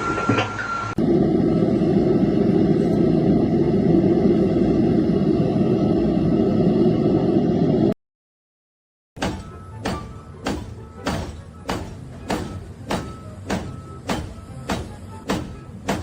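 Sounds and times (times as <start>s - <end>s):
heavy machine rumbling: 1.0s - 7.9s, 9.2s - 16.0s.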